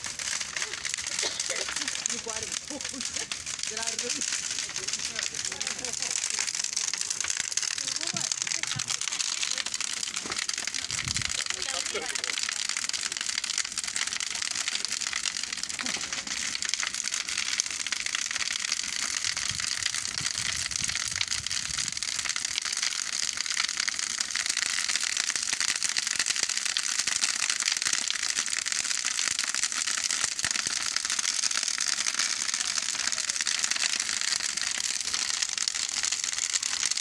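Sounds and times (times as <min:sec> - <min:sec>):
bonfire crackling: 0:00.0 - 0:37.0.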